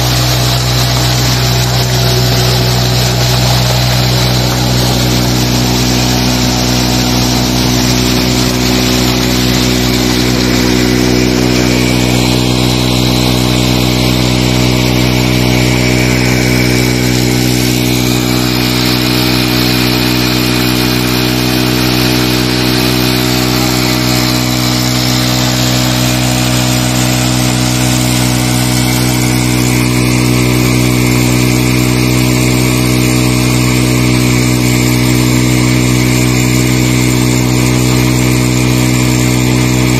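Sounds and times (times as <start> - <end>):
motorcycle engine running: 0.0 - 39.9
water gushing into tank: 0.0 - 39.9.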